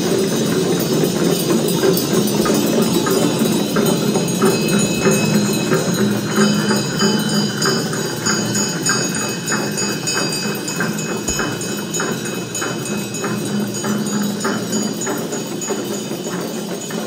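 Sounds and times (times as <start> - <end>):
bells ringing: 0.0 - 17.0
regular drum beat: 0.0 - 17.0.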